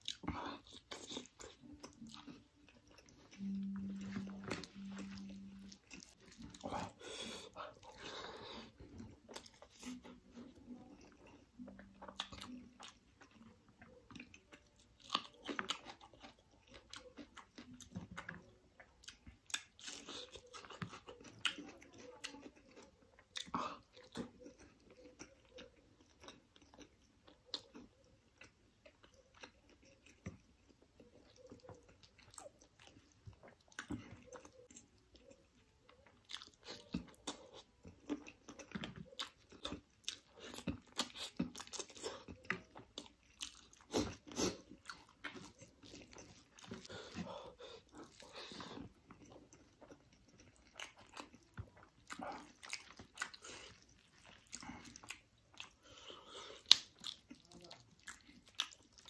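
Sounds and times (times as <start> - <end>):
wet chewing: 0.0 - 59.0.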